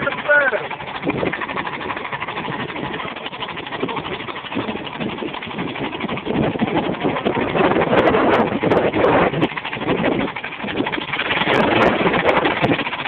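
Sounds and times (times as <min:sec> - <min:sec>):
car engine running roughly: 0:00.0 - 0:13.0.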